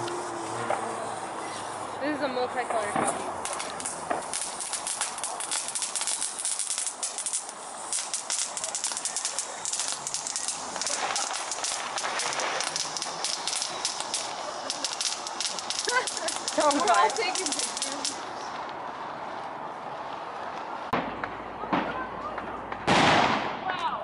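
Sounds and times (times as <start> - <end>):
fountain firework hissing and crackling: 0.0 - 20.9.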